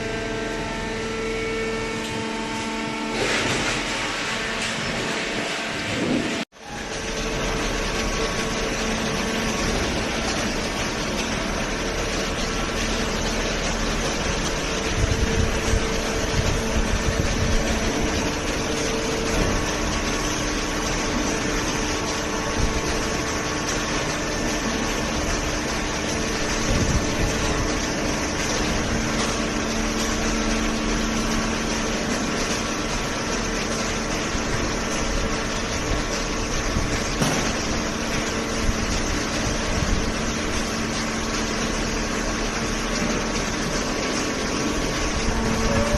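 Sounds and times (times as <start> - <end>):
hydraulic baler humming: 0.0 - 45.9.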